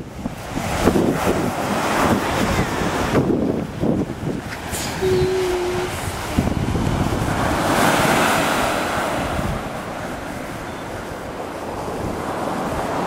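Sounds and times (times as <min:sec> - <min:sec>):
surf washing up a sandy beach: 0:00.0 - 0:13.0
wind rumbling on microphone: 0:00.0 - 0:13.0.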